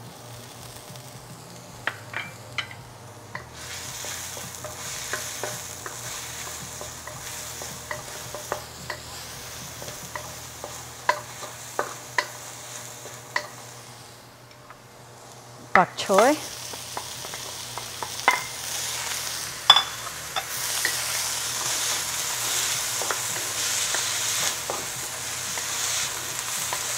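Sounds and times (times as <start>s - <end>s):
garlic sizzling in hot oil: 0.0s - 26.9s.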